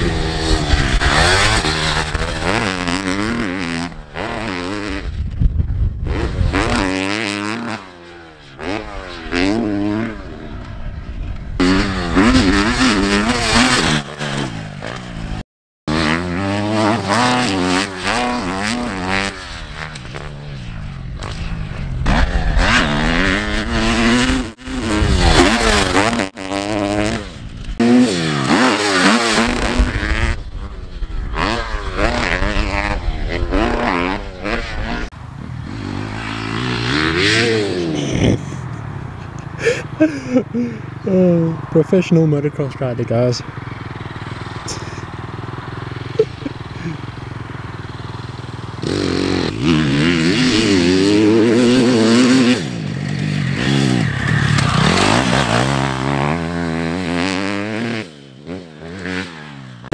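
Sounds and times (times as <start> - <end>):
dirt bike engine revving: 0.0 - 5.2, 6.0 - 59.9.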